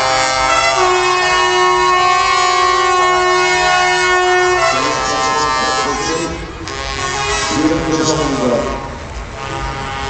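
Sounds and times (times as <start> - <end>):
truck air horns chord: 0.0 - 10.0.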